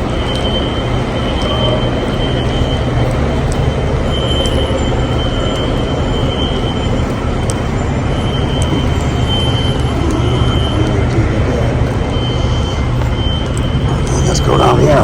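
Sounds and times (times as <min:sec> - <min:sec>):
fire alarm tone: 0:00.0 - 0:15.0
loud steady low rumble: 0:00.0 - 0:15.0.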